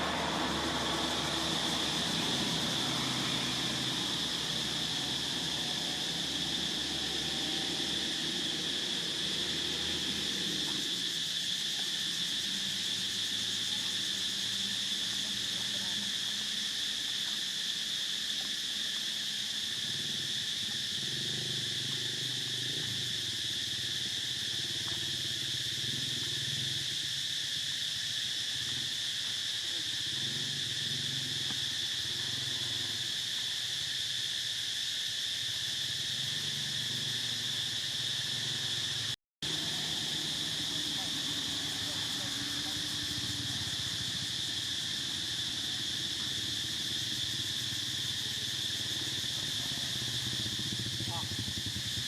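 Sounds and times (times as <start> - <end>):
insect chorus drone: 0.0 - 52.0.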